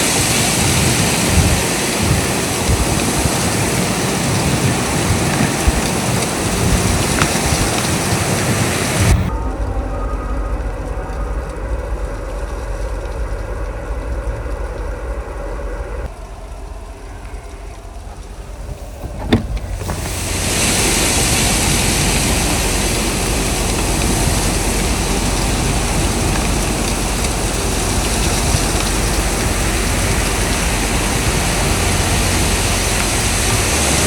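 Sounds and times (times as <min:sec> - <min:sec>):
blizzard wind blowing: 0:00.0 - 0:34.0.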